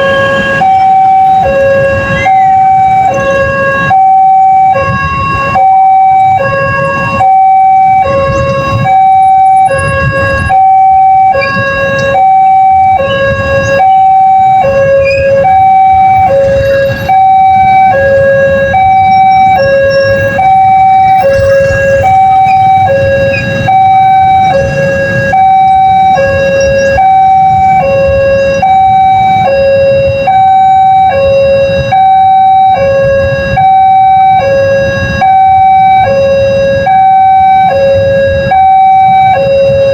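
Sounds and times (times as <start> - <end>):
level crossing two-tone siren: 0.0 - 39.9.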